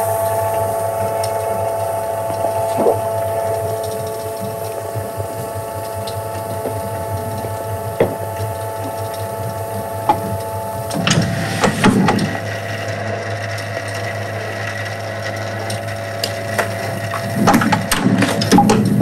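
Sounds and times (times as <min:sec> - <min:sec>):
printing press mechanical hum: 0:00.0 - 0:19.0.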